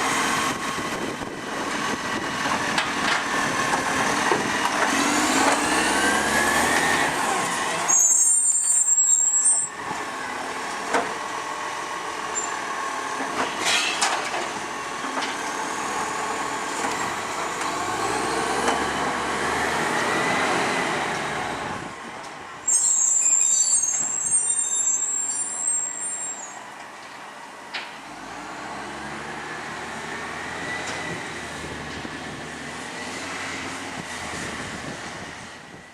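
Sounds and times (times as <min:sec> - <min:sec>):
garbage truck diesel engine: 0:00.0 - 0:35.9.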